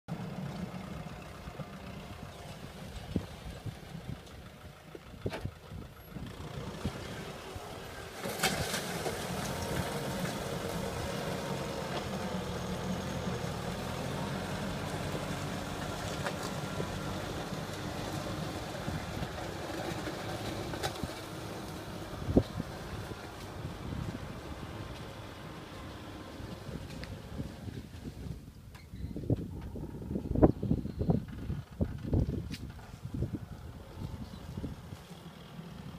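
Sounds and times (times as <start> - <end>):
tractor diesel engine running: 0.1 - 28.5, 29.2 - 35.9.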